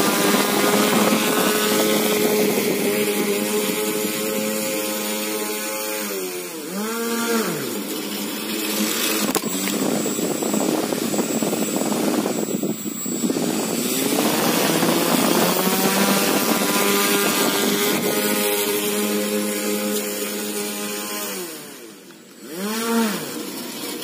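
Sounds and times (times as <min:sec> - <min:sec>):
electric motor buzz: 0:00.0 - 0:24.0.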